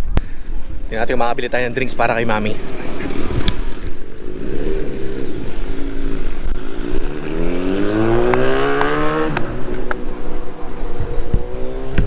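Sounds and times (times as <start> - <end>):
car engine accelerating: 0.4 - 12.0.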